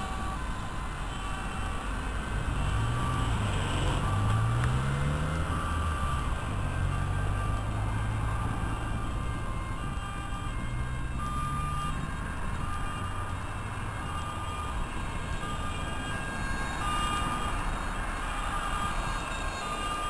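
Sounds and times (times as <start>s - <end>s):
ambulance two-tone siren: 0.0s - 20.0s
vehicle engine drone passing: 0.0s - 20.0s.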